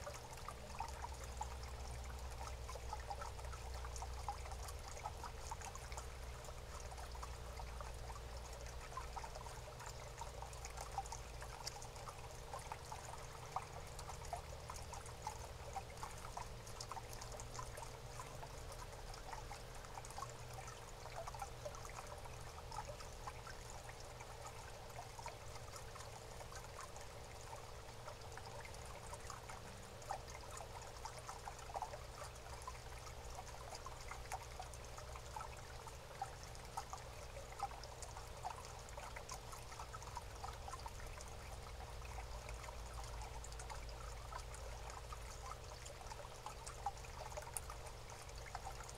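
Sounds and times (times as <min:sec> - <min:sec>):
low steady hum: 0:00.0 - 0:48.9
small irregular ticks: 0:00.0 - 0:48.9
water trickling: 0:00.0 - 0:48.9.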